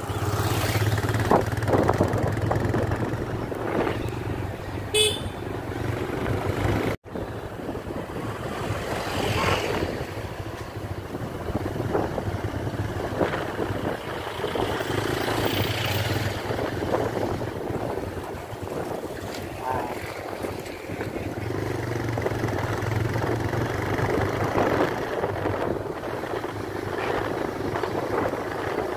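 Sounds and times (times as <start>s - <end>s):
vehicle engine and road noise: 0.0s - 28.9s.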